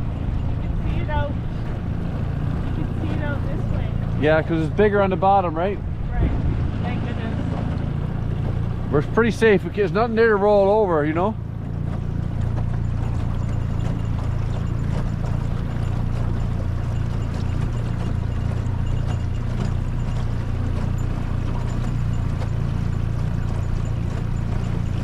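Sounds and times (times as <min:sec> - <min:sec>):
outboard motor running: 0:00.0 - 0:25.0.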